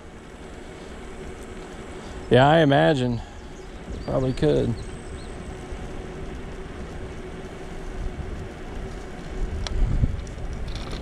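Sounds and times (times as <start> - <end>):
faint steady whine: 0.0 - 11.0
scooter tyres rumbling: 0.0 - 11.0.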